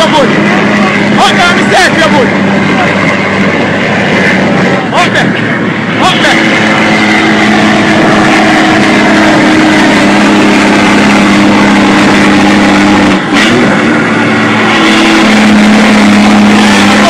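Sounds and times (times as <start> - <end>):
diesel truck engines droning: 0.0 - 17.0.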